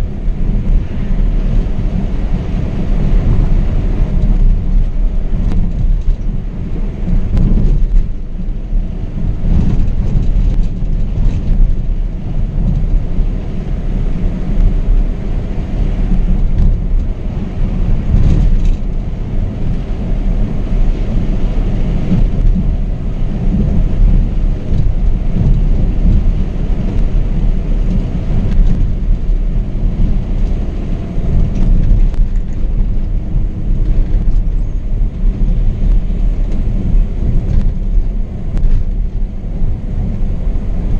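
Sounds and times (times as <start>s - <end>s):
coach driving at road speed: 0.0s - 40.9s.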